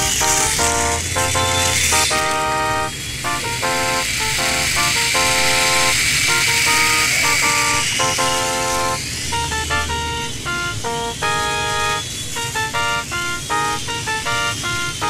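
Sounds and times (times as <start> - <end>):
quick staccato melody: 0.0 - 15.0.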